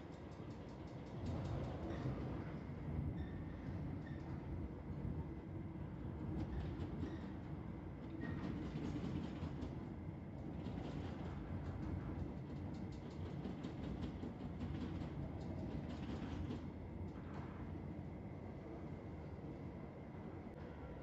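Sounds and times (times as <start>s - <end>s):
tram wheels rumbling on rails: 0.0s - 19.7s.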